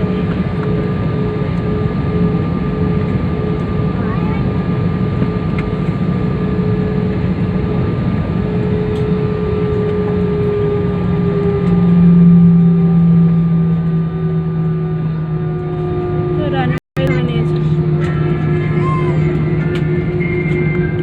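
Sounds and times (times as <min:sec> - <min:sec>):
airliner engines droning in cabin: 0:00.0 - 0:21.0.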